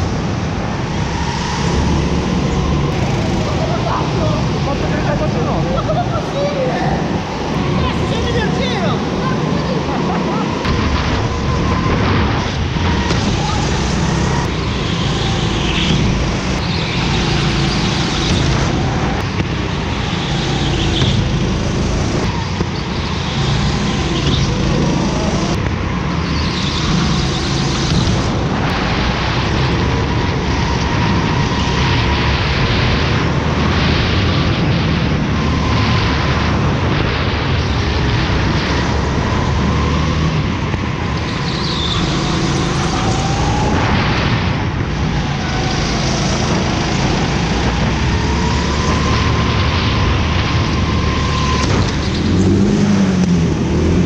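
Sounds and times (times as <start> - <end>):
go-kart engine drone: 0.0 - 54.0.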